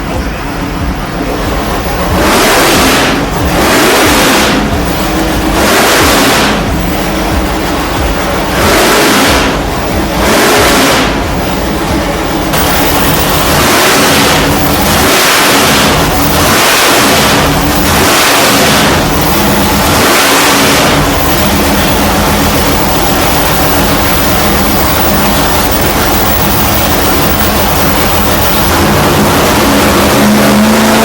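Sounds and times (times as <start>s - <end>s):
engine revving: 0.0s - 31.0s.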